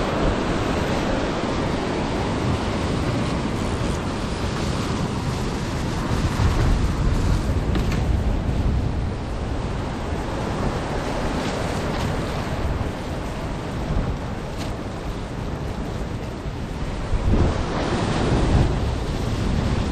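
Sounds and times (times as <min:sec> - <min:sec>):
surf breaking over rocks: 0:00.0 - 0:19.9
wind on microphone: 0:00.0 - 0:19.9.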